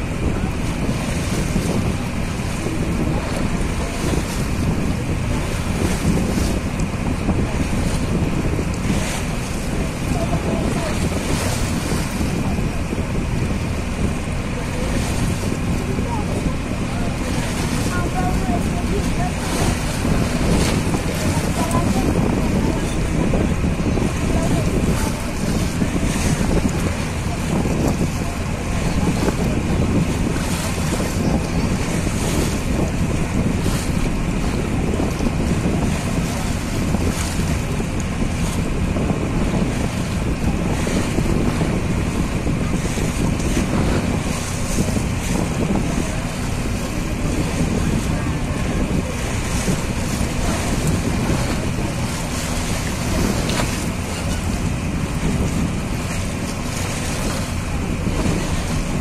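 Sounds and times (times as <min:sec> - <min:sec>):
boat engine droning: 0:00.0 - 0:59.0
choppy river water washing: 0:00.0 - 0:59.0
wind buffeting microphone: 0:00.0 - 0:59.0.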